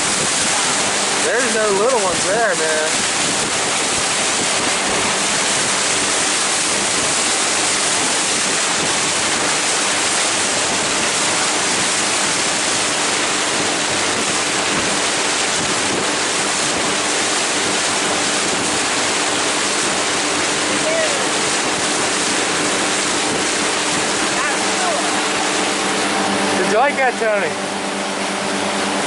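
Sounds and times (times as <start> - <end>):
wind and sea water rushing: 0.0 - 29.0.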